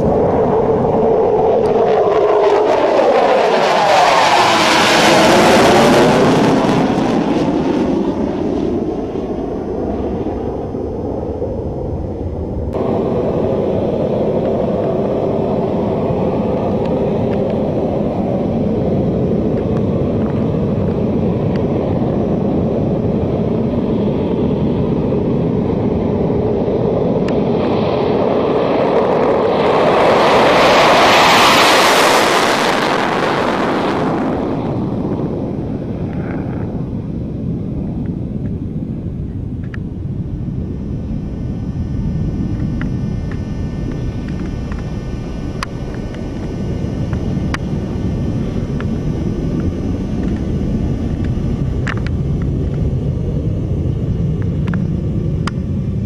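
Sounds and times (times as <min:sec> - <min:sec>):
jet engine noise: 0:00.0 - 0:56.0
jet fighter passing overhead: 0:00.0 - 0:56.0.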